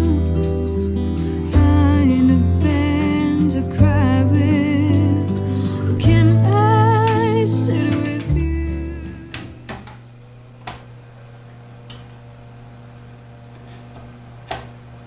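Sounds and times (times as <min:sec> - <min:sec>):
oven humming: 0:00.0 - 0:15.0.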